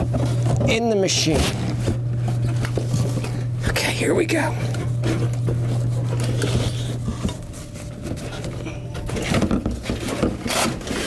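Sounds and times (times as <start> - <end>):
cardboard rustling and scraping: 0.0 - 3.4, 4.9 - 11.0
steady low hum: 0.0 - 11.0.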